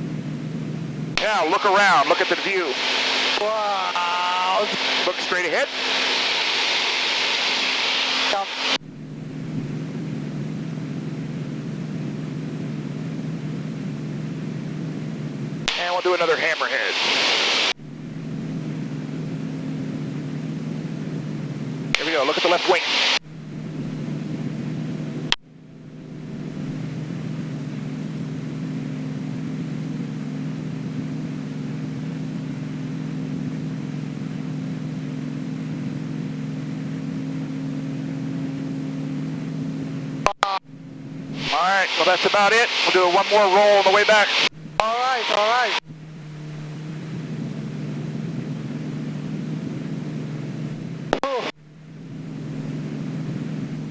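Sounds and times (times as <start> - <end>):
plane engine and propeller droning: 0.0 - 53.9.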